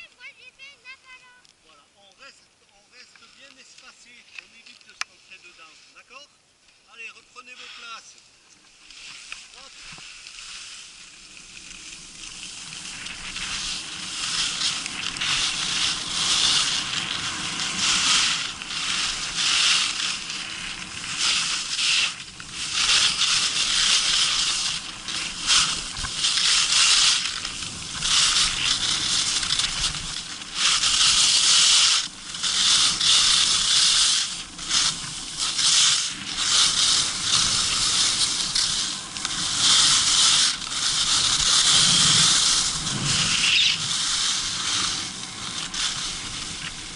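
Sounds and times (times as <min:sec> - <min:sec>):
skis scraping on hard snow: 0:02.9 - 0:06.2, 0:06.9 - 0:46.9.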